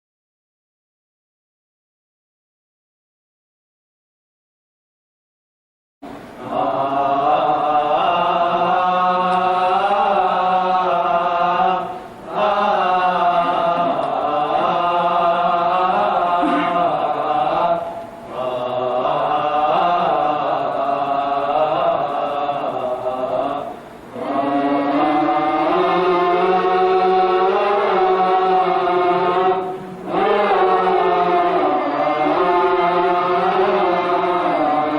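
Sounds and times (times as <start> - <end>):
steady low held tone: 6.0 - 34.9
vocal group chanting: 6.4 - 34.9.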